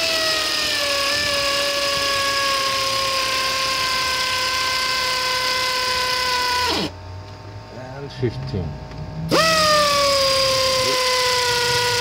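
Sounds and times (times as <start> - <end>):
pneumatic air ratchet whining: 0.0 - 7.0, 9.3 - 12.0.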